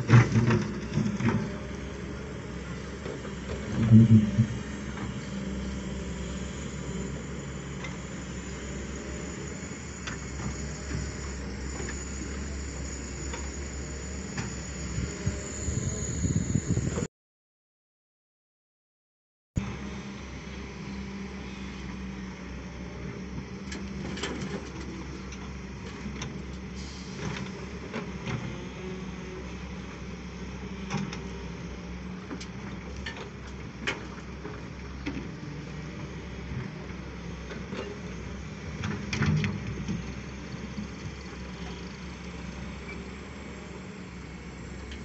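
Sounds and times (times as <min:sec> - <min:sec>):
excavator diesel engine running: 0:00.0 - 0:17.1, 0:19.6 - 0:45.0.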